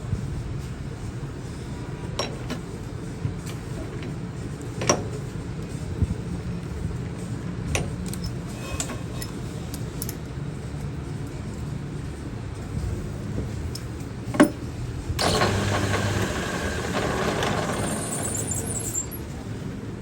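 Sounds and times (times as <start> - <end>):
workshop machinery humming: 0.0 - 20.0.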